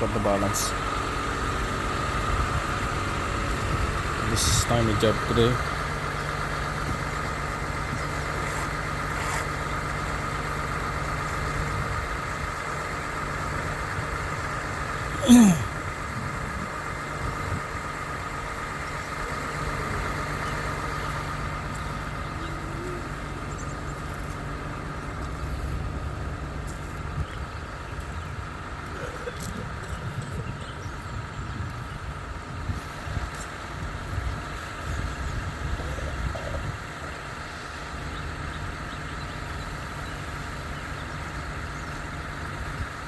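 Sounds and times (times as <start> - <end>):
concrete pump engine humming: 0.0 - 43.0.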